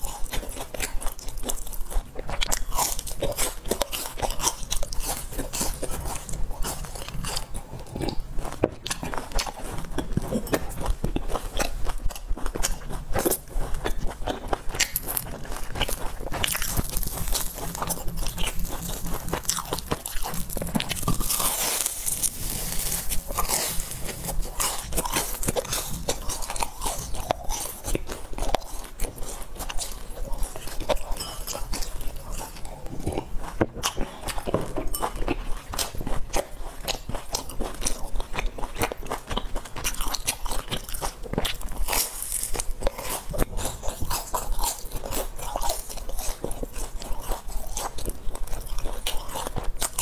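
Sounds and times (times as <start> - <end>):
crunching and chewing: 0.0 - 50.0.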